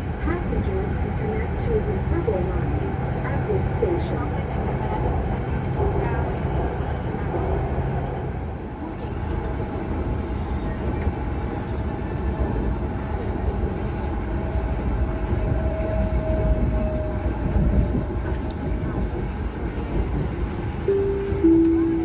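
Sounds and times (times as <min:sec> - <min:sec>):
train carriage rumbling on track: 0:00.0 - 0:22.0.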